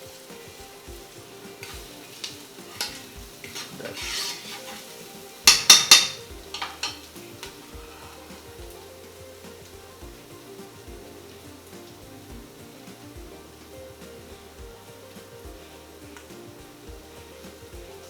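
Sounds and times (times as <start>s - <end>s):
onions and garlic sizzling: 0.0s - 18.0s
utensil clattering against pan: 0.0s - 18.0s.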